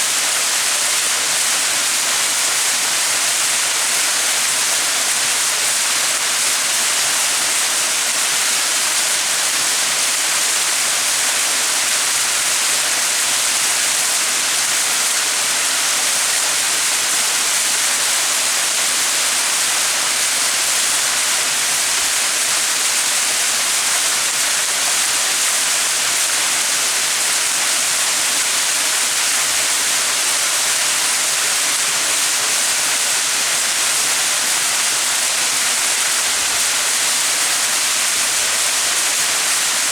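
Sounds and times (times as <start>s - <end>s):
waterfall splashing and rushing: 0.0s - 39.9s.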